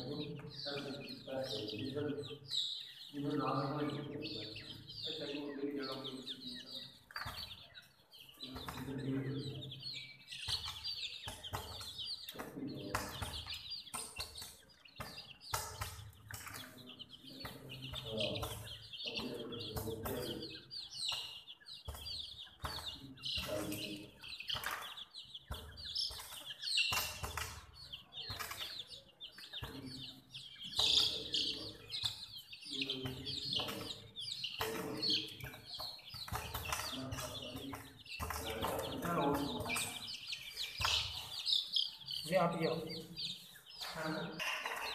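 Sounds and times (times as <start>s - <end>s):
baby chicks chirping: 0.0s - 44.9s.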